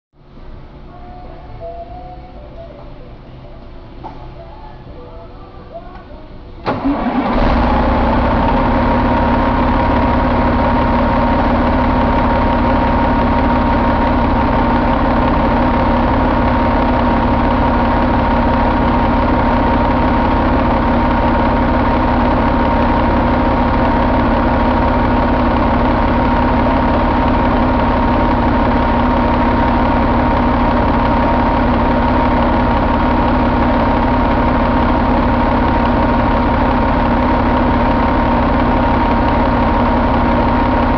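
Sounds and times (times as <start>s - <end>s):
diesel engine starting and idling: 4.0s - 40.9s.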